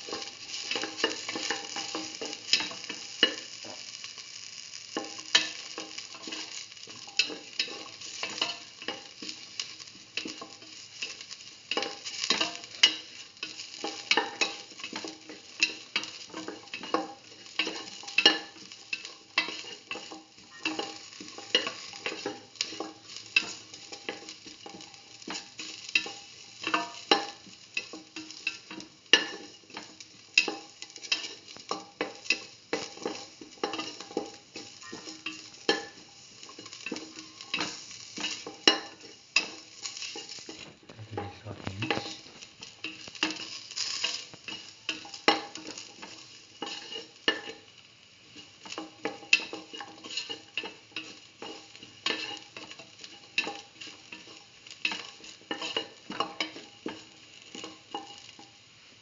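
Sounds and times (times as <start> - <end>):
onions sizzling in oil: 0.0 - 59.0
spatula scraping a metal pan: 5.0 - 40.7, 41.9 - 47.7, 48.4 - 58.4.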